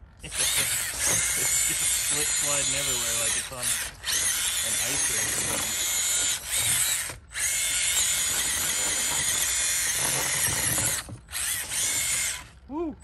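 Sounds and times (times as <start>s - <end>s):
electric motor whining: 0.2s - 12.7s.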